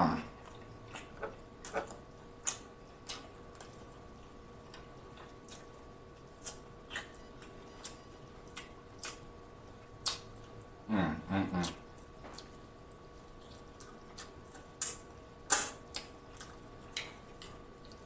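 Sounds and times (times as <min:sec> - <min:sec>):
faint steady hum: 0:00.0 - 0:18.0
lip smacks and chewing: 0:00.3 - 0:10.7, 0:11.6 - 0:18.0.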